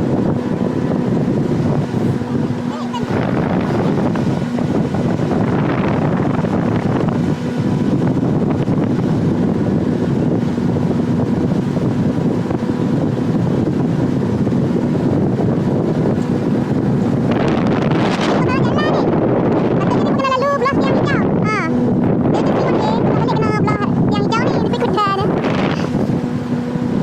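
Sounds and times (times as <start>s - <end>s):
motorboat engine running: 0.0s - 27.0s
wind buffeting microphone: 0.0s - 27.0s.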